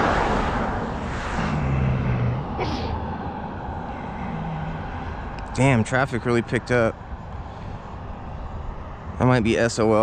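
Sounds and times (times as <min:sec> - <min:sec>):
low traffic engine hum: 0:00.0 - 0:10.0
passing car: 0:00.0 - 0:10.0.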